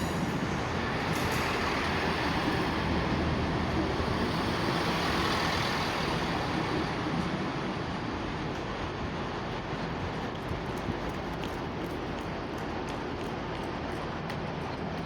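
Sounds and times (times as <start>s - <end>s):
train diesel engine: 0.0s - 15.0s
train wheels on rails: 0.0s - 15.0s.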